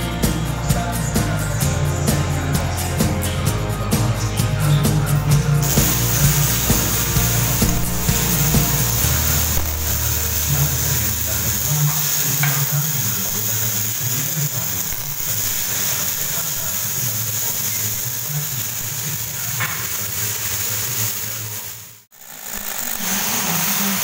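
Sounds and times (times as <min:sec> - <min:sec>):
welding arc hissing: 0:03.9 - 0:24.0.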